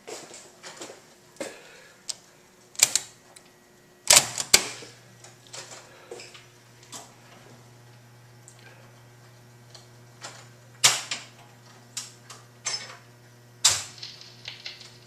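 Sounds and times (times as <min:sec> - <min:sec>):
jukebox mechanism humming: 0:00.0 - 0:15.0.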